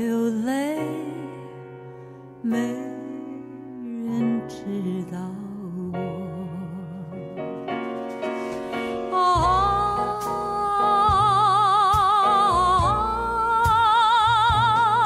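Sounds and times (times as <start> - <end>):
person singing a slow ballad: 0.0 - 7.5, 8.6 - 15.0.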